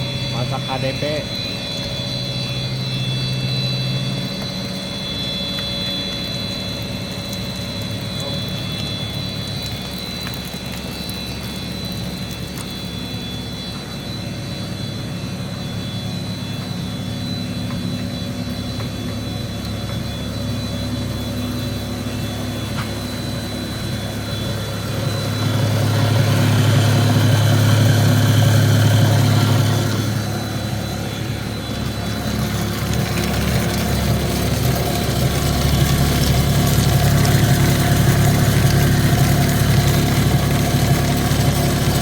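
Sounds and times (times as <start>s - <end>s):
electric motor humming and whining: 0.0s - 42.0s.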